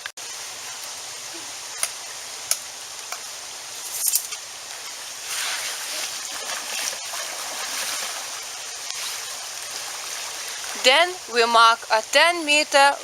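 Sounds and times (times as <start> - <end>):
small stream running: 0.0 - 13.0.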